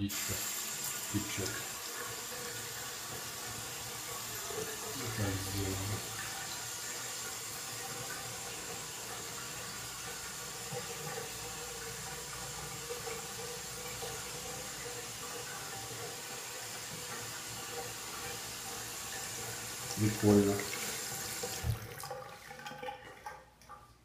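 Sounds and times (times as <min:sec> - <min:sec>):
faucet water running into sink: 0:00.0 - 0:23.8.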